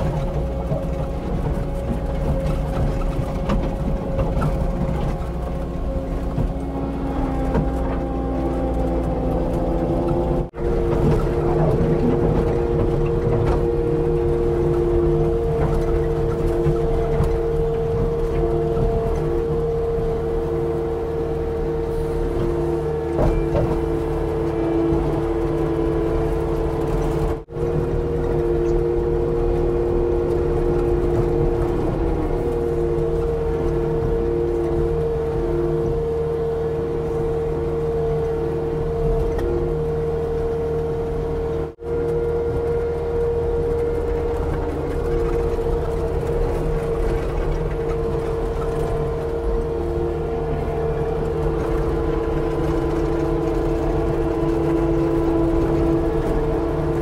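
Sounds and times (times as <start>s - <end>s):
diesel engine under load: 0.0s - 57.0s
hydraulic whine: 0.0s - 57.0s.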